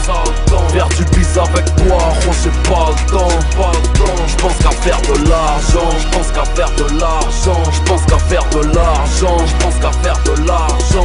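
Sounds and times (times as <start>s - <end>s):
hip hop beat: 0.0s - 11.0s.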